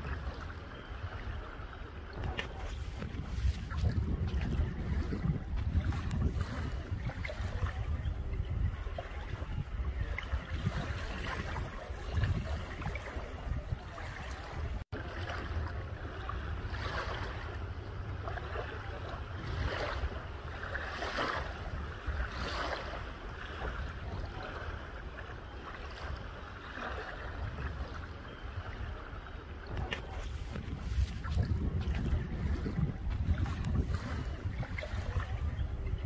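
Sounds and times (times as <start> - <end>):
waves lapping on beach: 0.0 - 36.0
wind rumble on microphone: 0.0 - 36.0.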